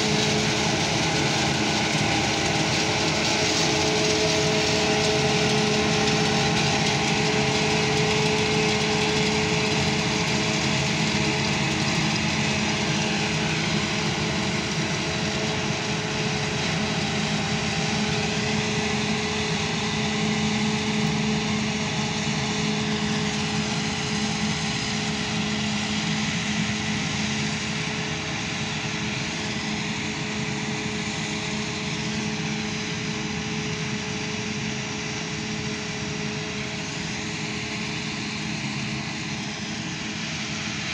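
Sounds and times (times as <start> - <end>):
constant machine whine: 0.0 - 40.9
heavy machinery drone: 0.0 - 40.9.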